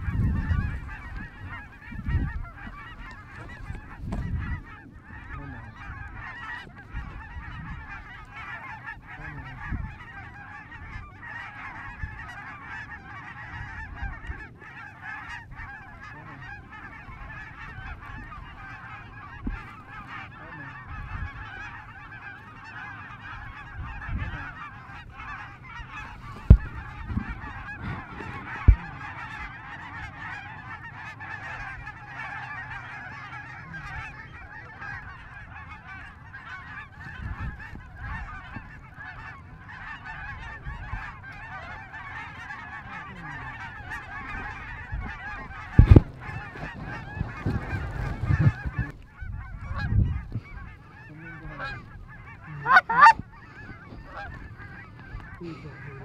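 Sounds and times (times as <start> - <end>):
geese honking: 0.0 - 56.0.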